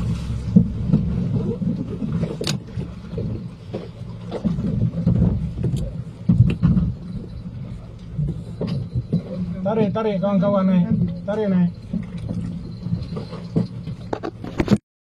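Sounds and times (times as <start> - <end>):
boat engine low rumble: 0.0 - 14.8.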